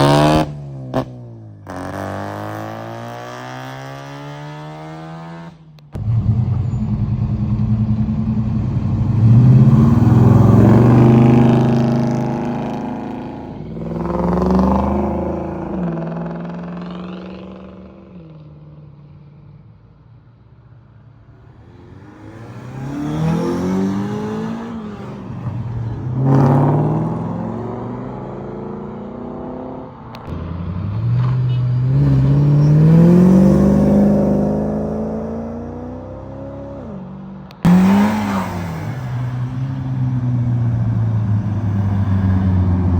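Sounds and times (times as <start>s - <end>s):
car engines revving past: 0.0s - 18.5s, 21.2s - 42.9s.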